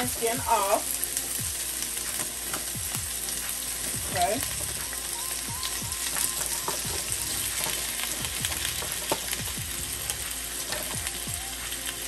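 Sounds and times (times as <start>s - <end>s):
oil crackling and popping: 0.0s - 12.0s
potatoes sizzling in hot oil: 0.0s - 12.0s.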